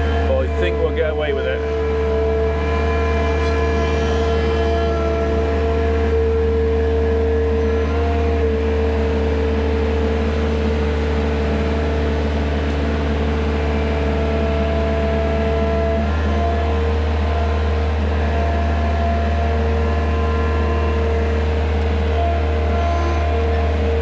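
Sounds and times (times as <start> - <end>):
loader engine whining: 0.0 - 24.0.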